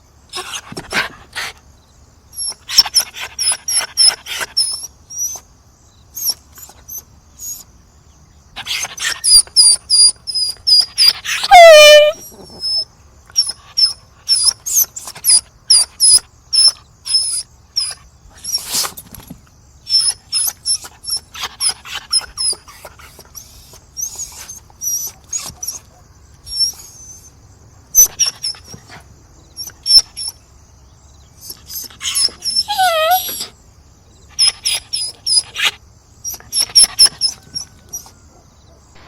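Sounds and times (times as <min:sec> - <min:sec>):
dog whimpering and whining: 0:02.4 - 0:05.5, 0:06.2 - 0:07.7, 0:08.6 - 0:18.6, 0:19.9 - 0:30.4, 0:31.4 - 0:33.6, 0:34.3 - 0:38.4.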